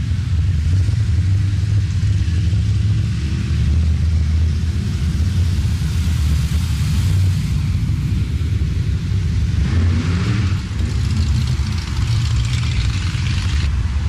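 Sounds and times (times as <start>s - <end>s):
car engines rumbling past: 0.0s - 14.0s.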